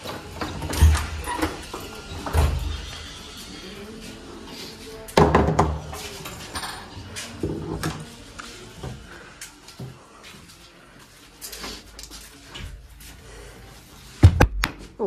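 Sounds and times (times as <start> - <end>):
footsteps in a small room: 0.0 - 15.0.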